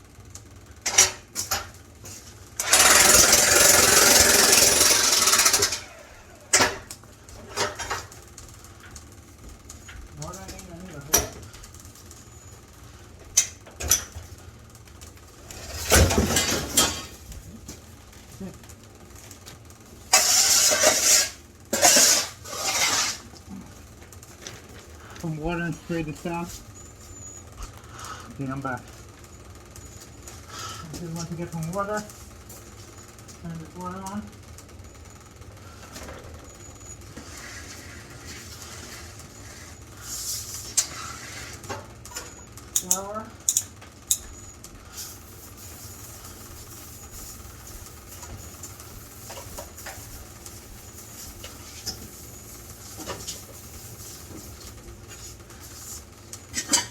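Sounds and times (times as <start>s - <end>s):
exhaust fan humming: 0.0s - 56.9s.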